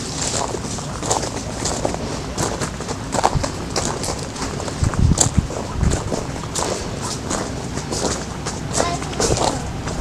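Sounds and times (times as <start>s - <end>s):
footsteps scuffing: 0.0s - 10.0s.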